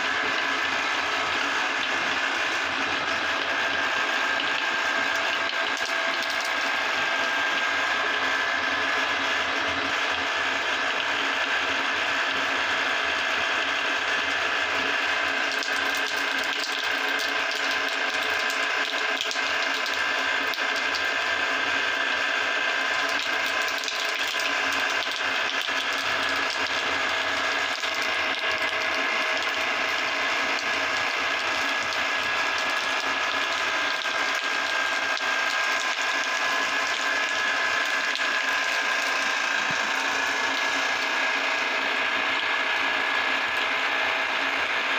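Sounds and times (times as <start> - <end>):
meat grinder rattling and whining: 0.0 - 44.9.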